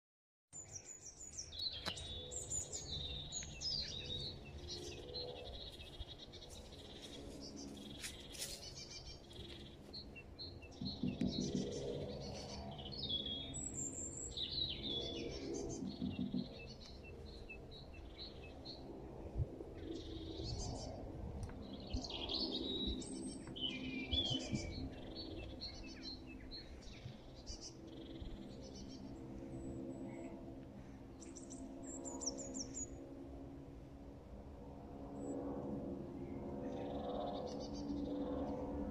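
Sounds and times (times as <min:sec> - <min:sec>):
small birds chirping: 0:00.6 - 0:18.8, 0:19.8 - 0:33.2
distant jet engine drone: 0:00.6 - 0:38.9.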